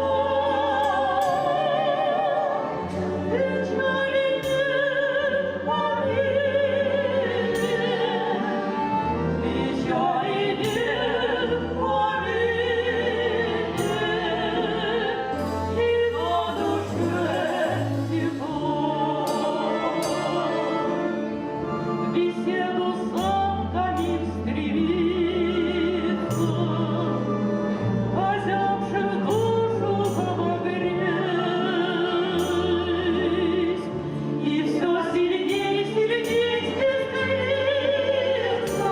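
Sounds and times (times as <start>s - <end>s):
instrumental accompaniment: 0.0s - 38.9s
women singing duet: 0.0s - 38.9s.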